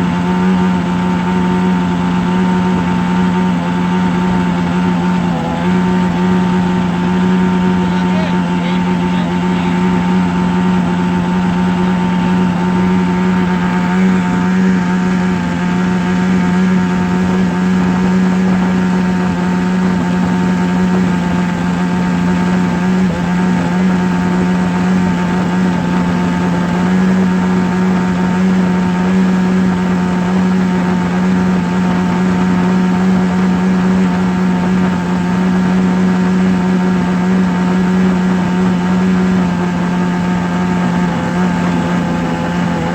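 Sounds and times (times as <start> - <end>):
small motor humming: 0.0 - 42.9.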